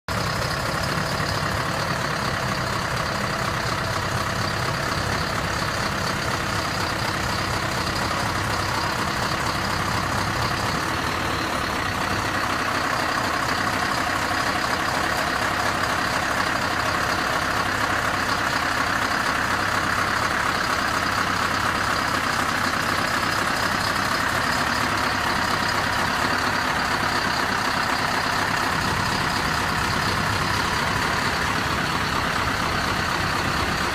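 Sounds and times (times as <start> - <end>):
truck engine running: 0.1 - 33.9.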